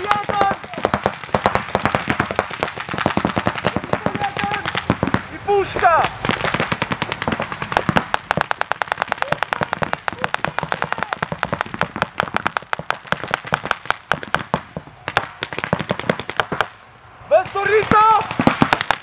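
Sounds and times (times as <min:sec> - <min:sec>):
paintball markers firing rapidly: 0:00.0 - 0:05.2, 0:05.8 - 0:16.7, 0:17.5 - 0:19.0.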